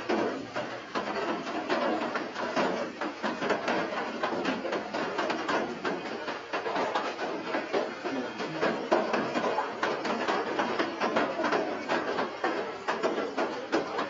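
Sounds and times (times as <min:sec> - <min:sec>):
steady rain patter: 0:00.0 - 0:14.0.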